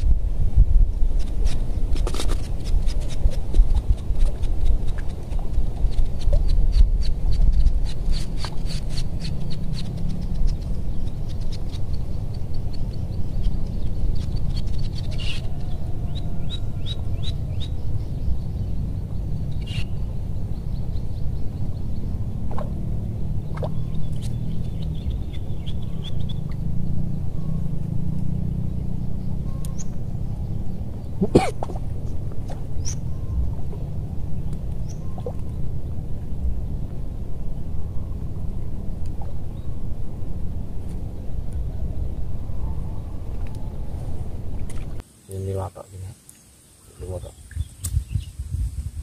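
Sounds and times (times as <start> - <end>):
wind buffeting microphone: 0.0 - 45.0, 47.1 - 49.0
birds chirping: 2.4 - 48.5.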